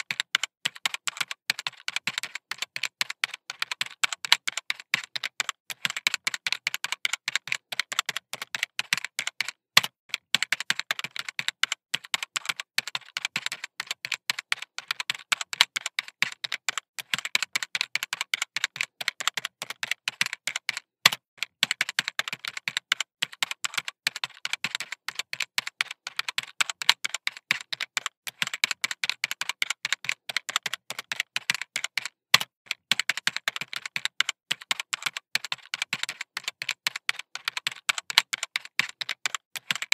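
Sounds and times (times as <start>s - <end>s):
pen tapping and scratching on paper: 0.1s - 39.9s.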